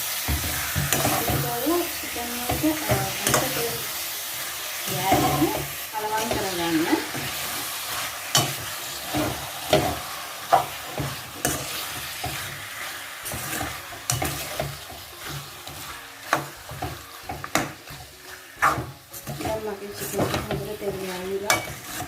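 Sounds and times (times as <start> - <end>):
chicken sizzling in hot oil: 0.0 - 22.0
spoon scraping and knocking pan: 0.2 - 22.0.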